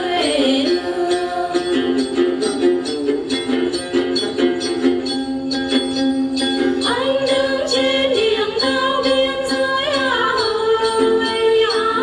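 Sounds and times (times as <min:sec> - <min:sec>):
light jingling rhythm: 0:00.0 - 0:12.0
plucked lute: 0:00.0 - 0:12.0.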